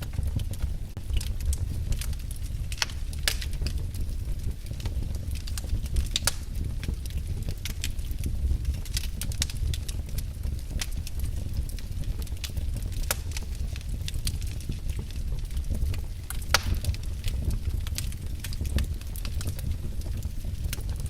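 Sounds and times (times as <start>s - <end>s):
fire crackling and popping: 0.0s - 21.0s
flames rumbling: 0.0s - 21.0s.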